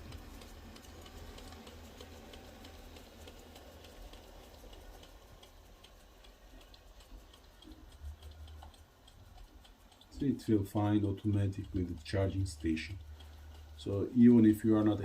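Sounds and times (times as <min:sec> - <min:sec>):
light ticks: 0:00.0 - 0:15.0.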